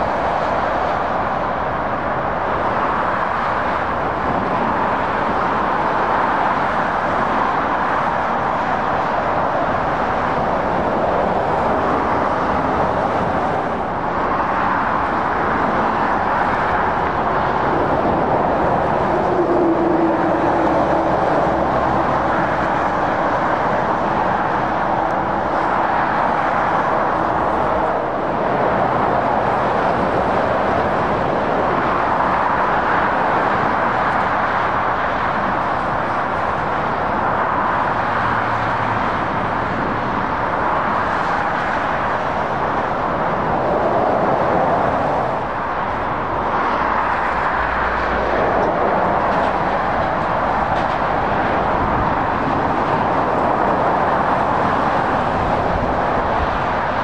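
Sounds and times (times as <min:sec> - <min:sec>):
motorway traffic passing: 0:00.0 - 0:57.0.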